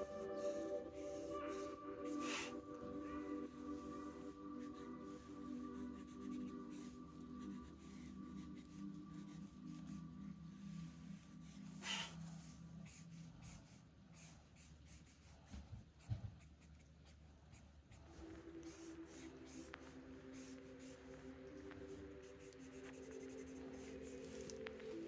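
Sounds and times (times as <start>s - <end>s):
marker rubbing on paper: 0.0s - 25.0s
soft background music: 0.0s - 25.0s.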